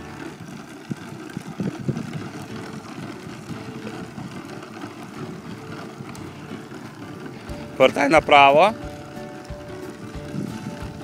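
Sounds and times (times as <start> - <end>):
plastic wheels rolling on asphalt: 0.0 - 11.0.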